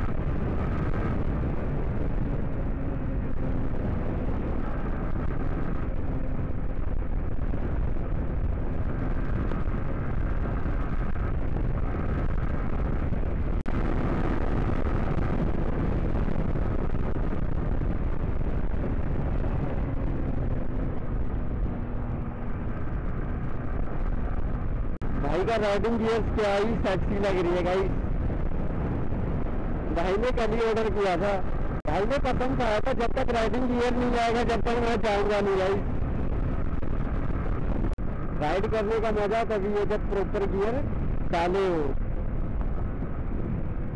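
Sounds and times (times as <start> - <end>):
motorcycle engine running: 0.0 - 43.9
wind rumble on microphone: 0.0 - 43.9.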